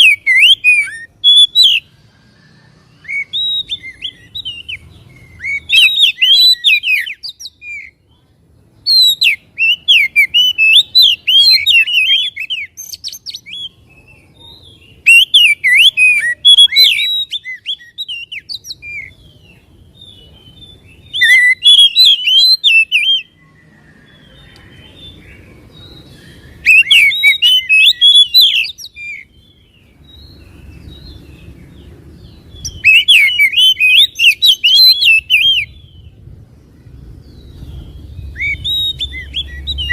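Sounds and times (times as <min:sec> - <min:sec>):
bird singing whistled phrases: 0:00.0 - 0:08.0, 0:08.8 - 0:31.3, 0:32.3 - 0:36.2, 0:37.2 - 0:39.9.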